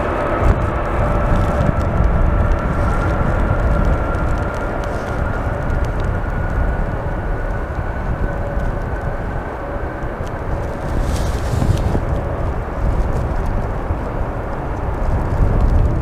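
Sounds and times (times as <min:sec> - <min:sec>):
jet engines rumbling with whine: 0:00.0 - 0:16.0.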